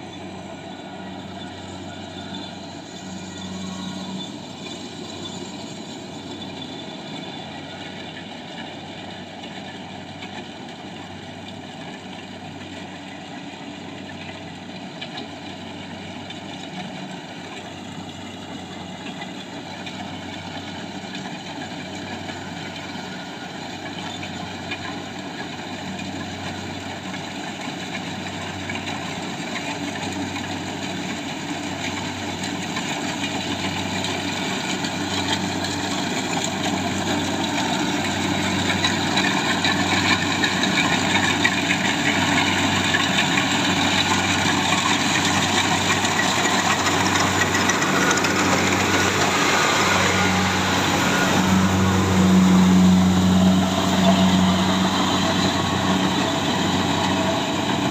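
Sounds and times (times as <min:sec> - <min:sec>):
harvester engine humming: 0:00.0 - 0:57.9.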